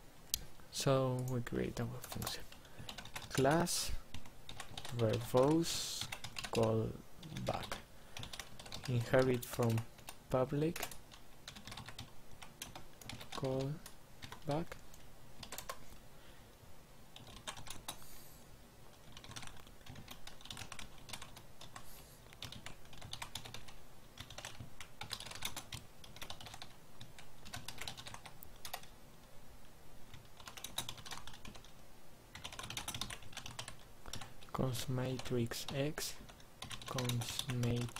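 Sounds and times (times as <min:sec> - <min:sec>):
computer keyboard typing: 0:01.2 - 0:15.8, 0:17.1 - 0:18.0, 0:18.9 - 0:28.9, 0:30.1 - 0:34.5, 0:35.2 - 0:37.9.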